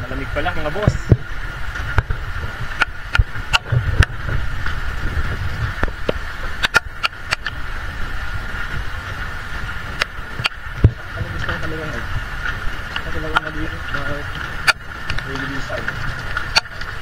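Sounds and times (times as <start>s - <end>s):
steady high hum: 0.0s - 17.0s
wind and rain rumble on microphone: 0.0s - 17.0s
raindrops tapping phone: 0.3s - 17.0s.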